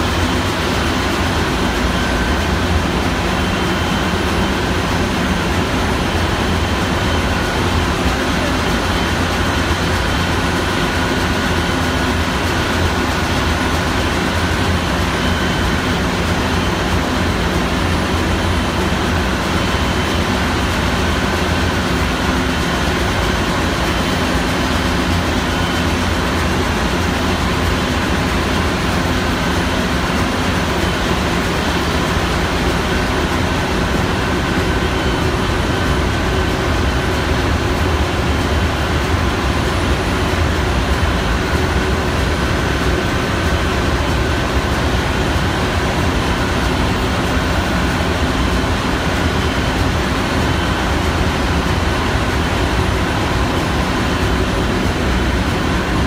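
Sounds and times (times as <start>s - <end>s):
low engine drone: 0.0s - 56.0s
steady humming tones: 0.0s - 56.0s.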